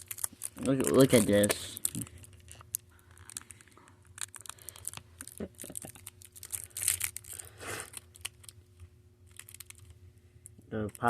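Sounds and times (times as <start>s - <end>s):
plastic wrapper crinkling and tearing: 0.0s - 10.0s
faint steady hum: 0.0s - 11.0s.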